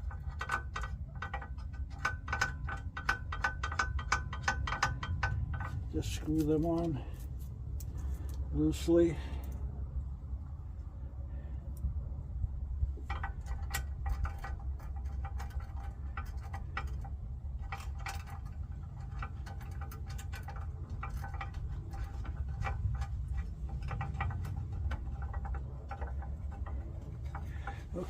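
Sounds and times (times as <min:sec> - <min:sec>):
small metallic clicks: 0:00.0 - 0:08.5, 0:12.9 - 0:28.0
steady low rumble: 0:00.0 - 0:28.0.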